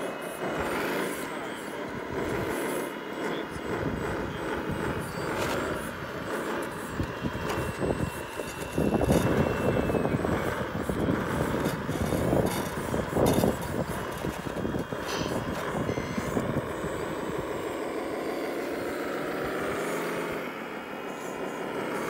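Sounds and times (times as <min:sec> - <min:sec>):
concrete slab scraping over gravel: 0:00.0 - 0:21.8
faint thin motor whine: 0:00.0 - 0:22.0.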